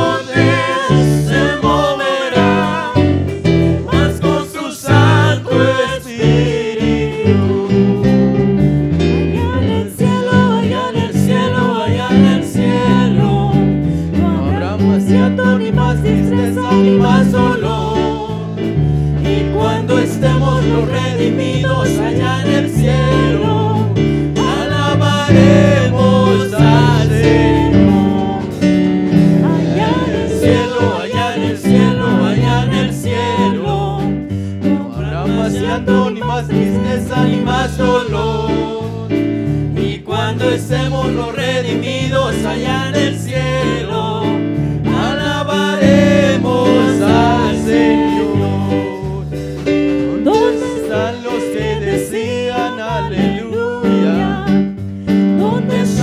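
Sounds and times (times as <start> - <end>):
voices singing: 0.0 - 8.7, 9.4 - 28.7, 29.4 - 54.6, 55.4 - 56.0
gospel band playing: 0.0 - 56.0.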